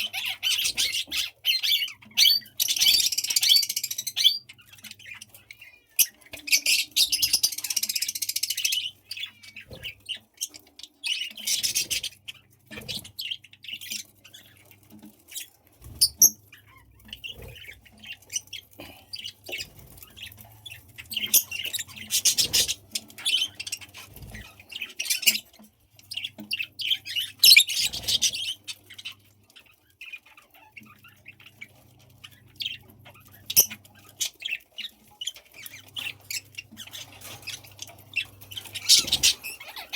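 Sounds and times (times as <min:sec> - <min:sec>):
budgies chattering and squawking: 0:00.0 - 0:39.9.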